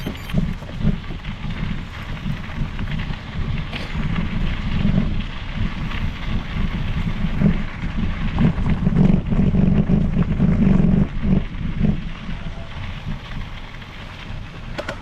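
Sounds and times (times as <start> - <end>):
bike tyres rumbling on trail: 0.0 - 15.0
knocks and rattles: 0.0 - 15.0
wind buffeting microphone: 0.0 - 15.0.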